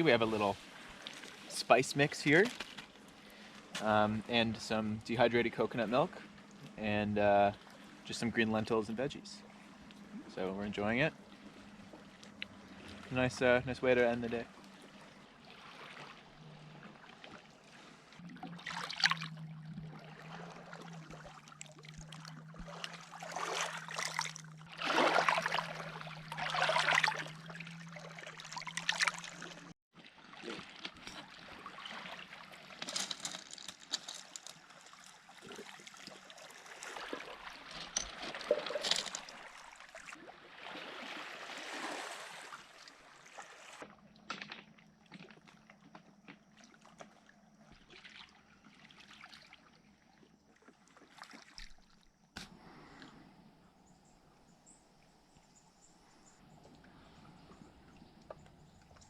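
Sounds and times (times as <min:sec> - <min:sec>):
water lapping and splashing: 0:00.0 - 0:59.0.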